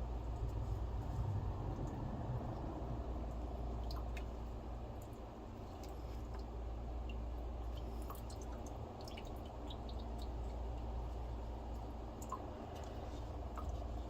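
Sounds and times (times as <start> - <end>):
squishy handling of wet debris: 0.0 - 14.0
steady low hum: 0.0 - 14.0
water dripping and trickling: 0.0 - 14.0.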